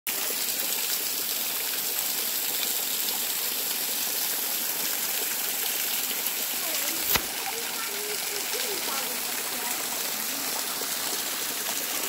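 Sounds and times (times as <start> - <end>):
waterfall splashing on rocks: 0.1 - 12.0.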